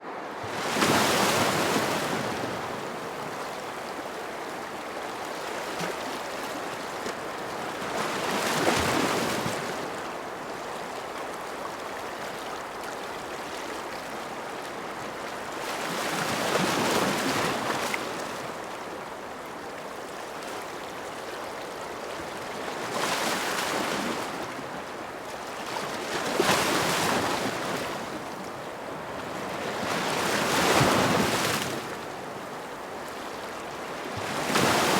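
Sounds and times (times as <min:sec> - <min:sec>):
ocean waves breaking on shore: 0:00.0 - 0:34.9.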